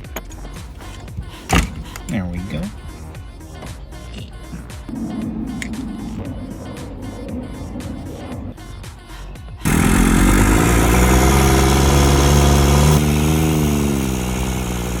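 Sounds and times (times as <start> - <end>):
truck engine starting and idling: 0.0 - 15.0.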